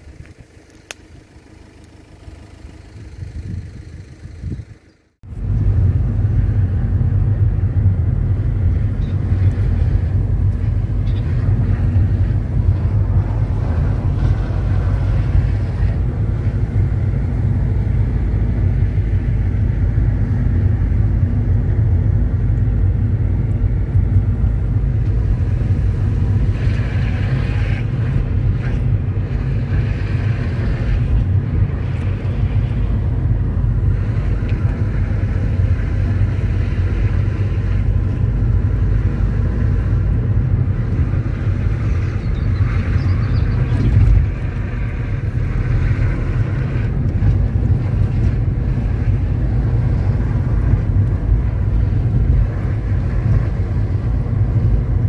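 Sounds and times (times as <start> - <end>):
vehicle running low rumble: 0.0 - 55.0.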